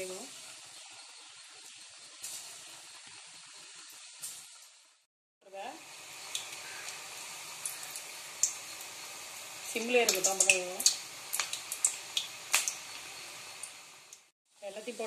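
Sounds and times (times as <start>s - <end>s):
sharp oil crackles: 0.0s - 5.1s, 5.8s - 14.3s
dough deep-frying in oil: 0.0s - 15.0s.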